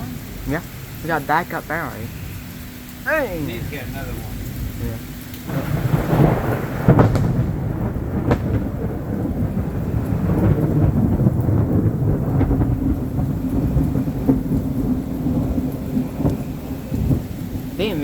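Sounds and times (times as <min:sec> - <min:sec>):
heavy rain pouring: 0:00.0 - 0:18.0
low rumble of thunder: 0:02.0 - 0:18.0.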